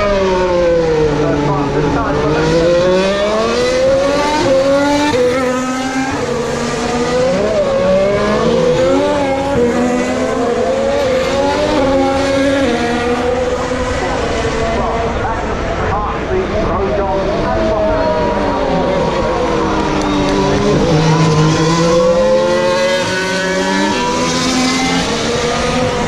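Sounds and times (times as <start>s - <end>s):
racing car engines accelerating: 0.0s - 26.0s.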